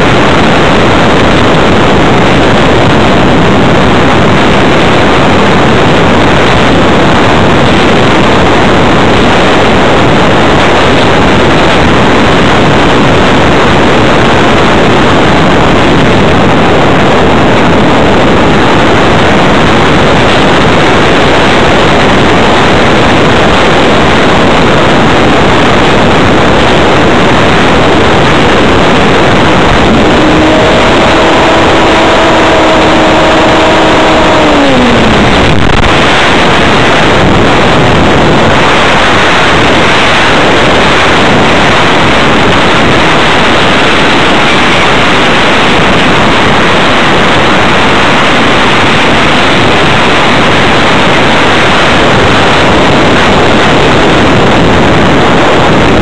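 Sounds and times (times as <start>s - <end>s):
electric motor and propeller whine: 0.0s - 50.5s
wind rushing over microphone: 0.0s - 56.0s.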